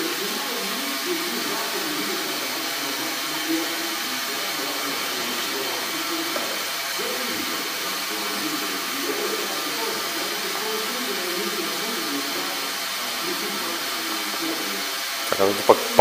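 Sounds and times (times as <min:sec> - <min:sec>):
muffled voices murmuring: 0:00.0 - 0:16.0
steady hiss: 0:00.0 - 0:16.0.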